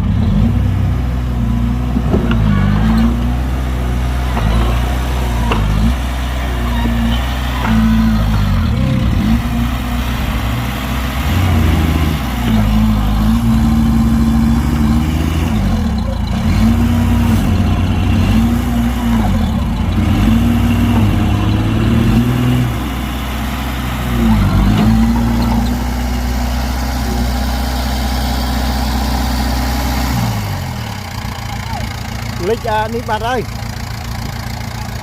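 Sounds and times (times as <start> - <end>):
heavy diesel engine under load: 0.0 - 35.0.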